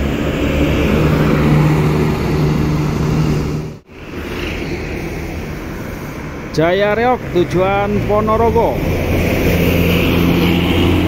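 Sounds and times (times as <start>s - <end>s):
bus diesel engine droning: 0.0s - 11.0s
car passing: 0.0s - 11.0s
road traffic: 0.0s - 11.0s.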